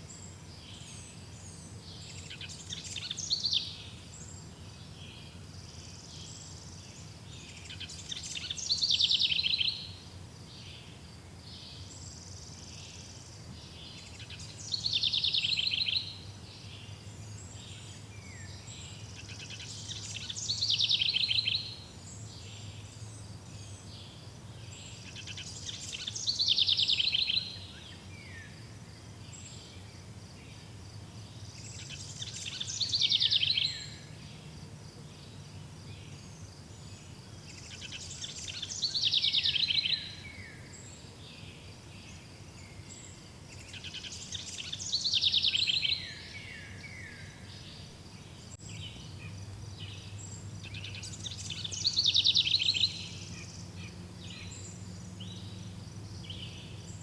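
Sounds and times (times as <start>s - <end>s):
songbird singing high phrase: 0.1s - 10.0s, 10.6s - 28.6s, 31.2s - 34.5s, 35.2s - 57.0s.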